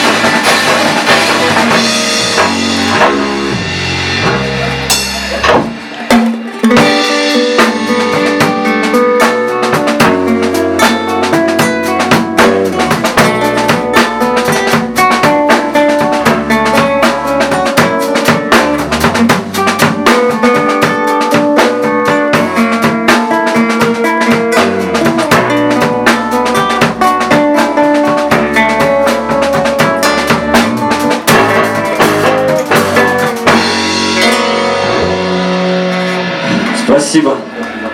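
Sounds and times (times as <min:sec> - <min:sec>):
rock band playing live: 0:00.0 - 0:37.9.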